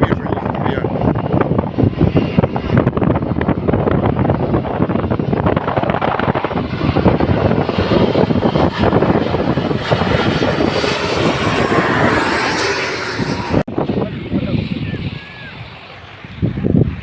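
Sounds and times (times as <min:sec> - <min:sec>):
airliner engine roar and whine: 0:00.0 - 0:17.0.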